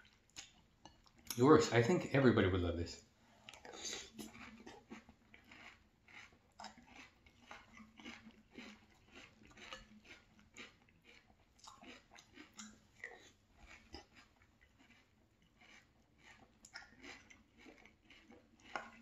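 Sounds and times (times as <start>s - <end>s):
chewing crunchy cereal: 0.0s - 2.0s, 3.4s - 19.0s.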